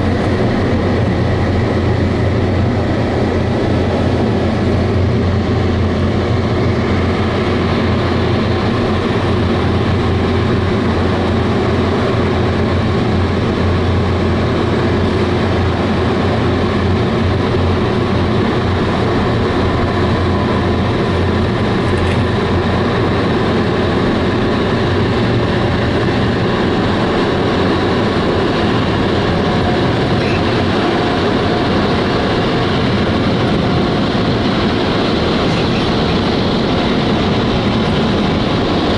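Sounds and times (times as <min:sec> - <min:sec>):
car wash machinery rushing: 0:00.0 - 0:38.9.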